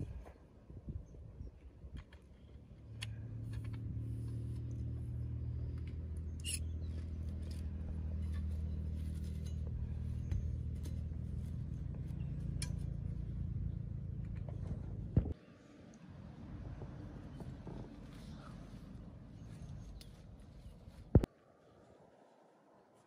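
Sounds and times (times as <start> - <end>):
engine humming steadily: 1.9 - 21.3.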